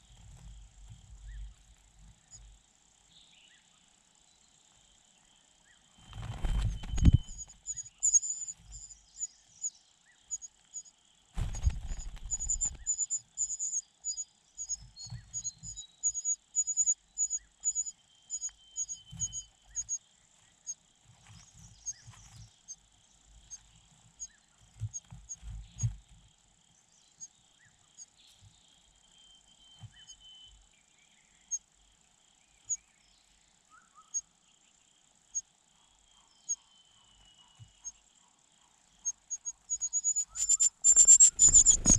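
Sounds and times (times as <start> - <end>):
faint steady buzz: 0.0 - 41.9
insects chirping: 0.0 - 41.9.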